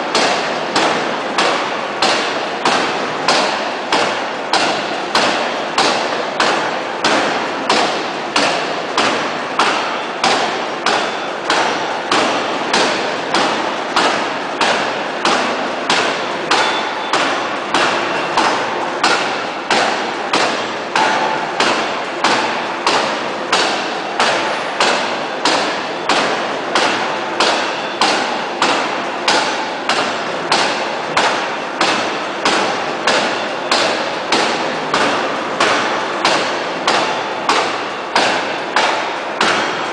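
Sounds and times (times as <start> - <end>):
forging hammer striking steel: 0.1 - 39.9.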